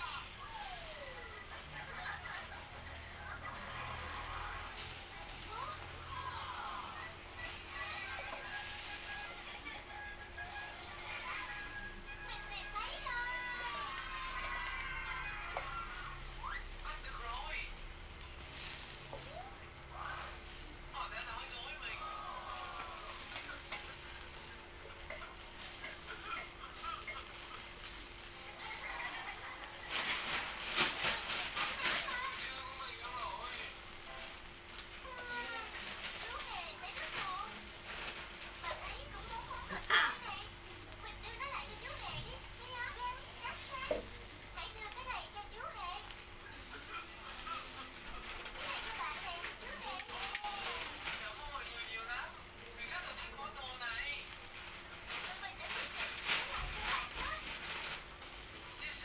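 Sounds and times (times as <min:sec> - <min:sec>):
meat sizzling on grill: 0:00.0 - 0:59.0.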